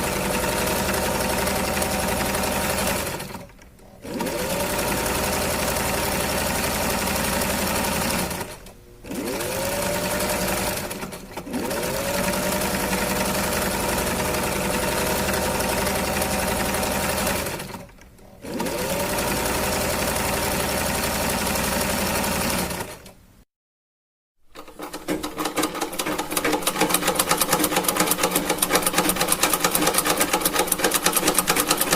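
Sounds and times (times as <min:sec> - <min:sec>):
sewing machine stitching: 0:00.0 - 0:23.2, 0:24.5 - 0:31.9.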